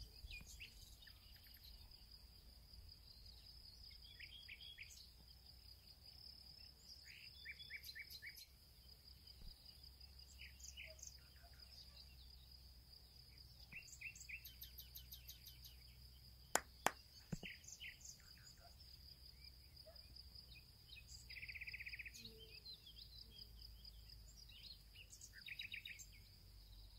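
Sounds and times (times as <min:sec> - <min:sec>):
bird chirps: 0:00.0 - 0:02.2, 0:03.1 - 0:12.5, 0:13.2 - 0:26.9.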